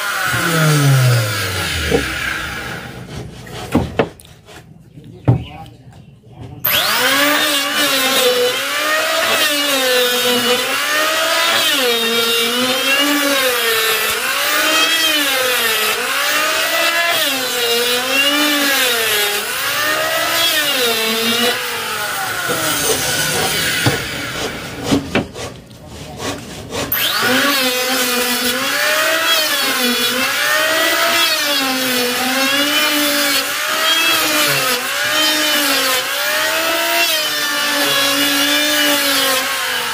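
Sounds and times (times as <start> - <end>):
electric planer cutting wood: 0.0 - 3.8, 6.6 - 25.5, 26.2 - 39.9.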